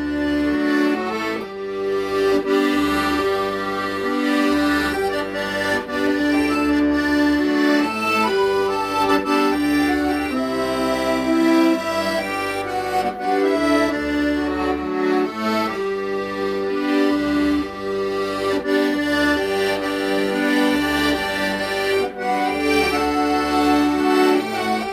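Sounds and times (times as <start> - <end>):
accordion playing slow melody: 0.0 - 24.9.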